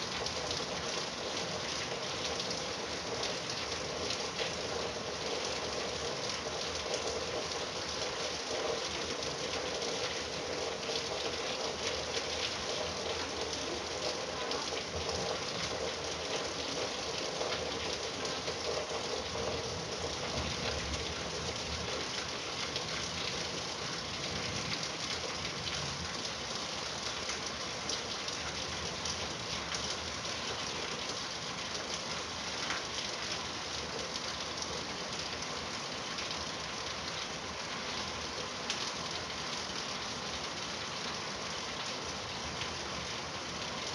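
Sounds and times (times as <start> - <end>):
rain falling: 0.0 - 43.9
raindrops pattering on a surface: 0.0 - 43.9.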